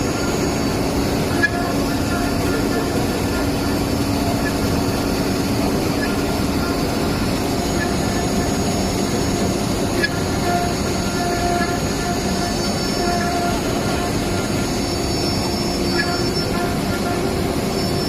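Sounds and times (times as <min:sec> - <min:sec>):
wood router machining: 0:00.0 - 0:18.0.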